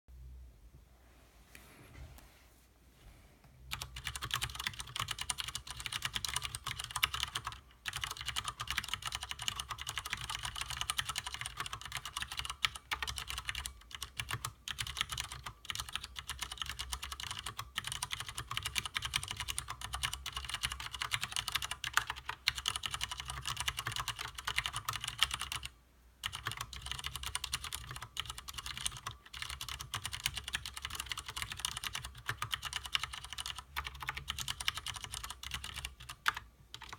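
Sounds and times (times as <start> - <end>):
fast typing on mechanical keyboard: 3.7 - 36.9.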